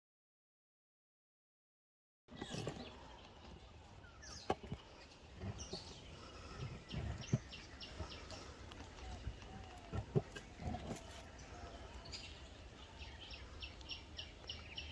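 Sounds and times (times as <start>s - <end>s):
birds chirping: 2.3s - 14.9s.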